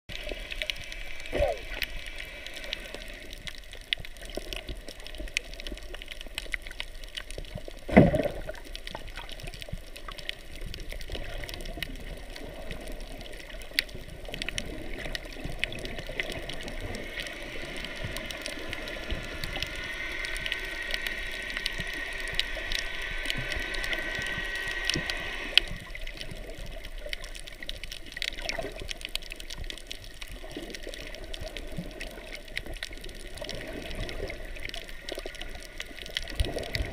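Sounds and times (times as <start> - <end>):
muffled underwater water wash: 0.1 - 36.9
small underwater clicks and crackles: 0.1 - 36.9.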